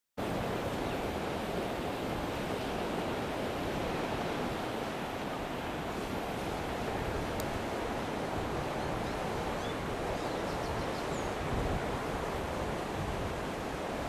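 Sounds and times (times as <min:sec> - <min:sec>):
wind rushing over microphone: 0:00.2 - 0:14.0.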